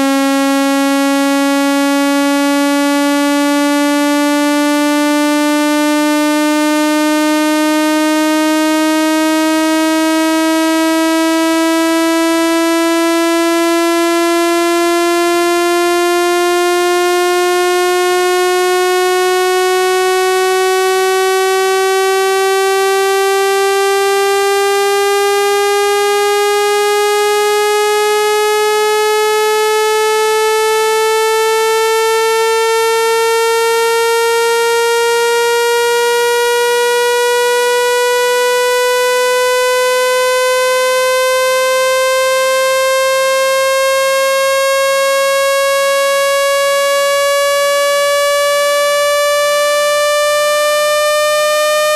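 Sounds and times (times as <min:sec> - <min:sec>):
electronic tone rising in pitch: 0:00.0 - 0:51.9.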